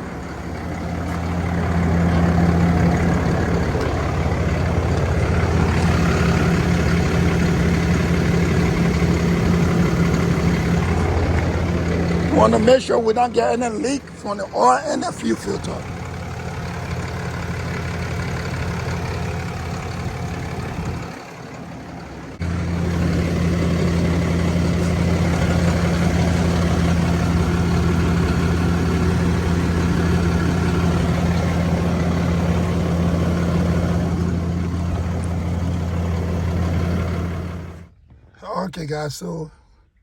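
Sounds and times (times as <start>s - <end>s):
diesel engine idling: 0.0s - 39.5s.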